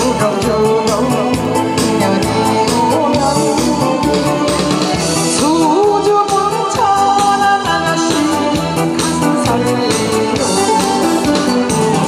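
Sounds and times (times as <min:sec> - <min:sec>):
backing track with drum beat: 0:00.0 - 0:12.0
woman singing with vibrato: 0:00.0 - 0:12.0.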